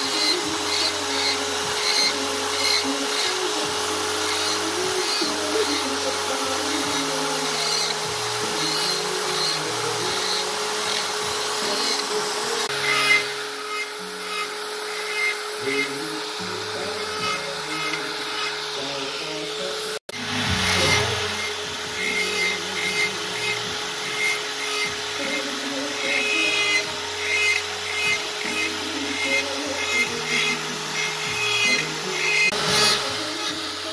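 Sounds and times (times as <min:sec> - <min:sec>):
rotary tool grinding wood: 0:00.0 - 0:33.9.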